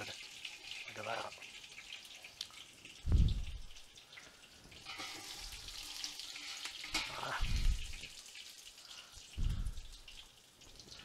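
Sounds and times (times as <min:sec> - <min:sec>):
hot oil sizzling in a pot: 0:00.0 - 0:11.0.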